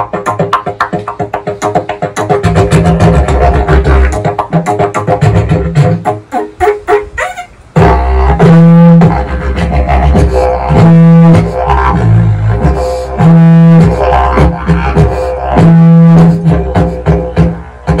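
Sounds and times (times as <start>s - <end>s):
didgeridoo drone: 0.0s - 18.0s
loud held didgeridoo note: 2.3s - 18.0s.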